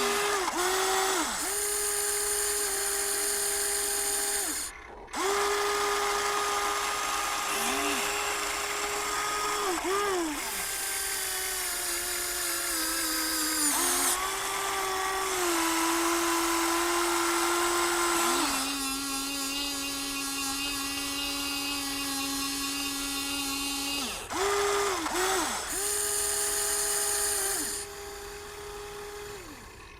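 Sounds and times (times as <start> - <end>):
electric toy motors whining: 0.0 - 29.9.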